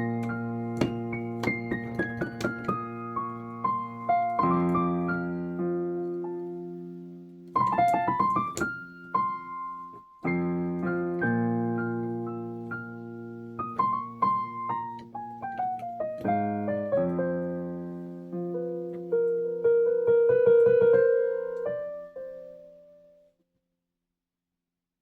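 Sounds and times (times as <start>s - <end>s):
solo piano playing: 0.0s - 23.3s.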